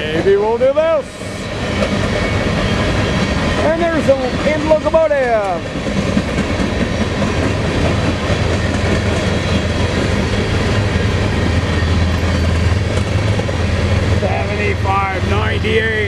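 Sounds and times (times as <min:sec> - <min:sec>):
diesel locomotive engine drone: 0:00.0 - 0:16.0
train wheels on rails: 0:00.0 - 0:16.0.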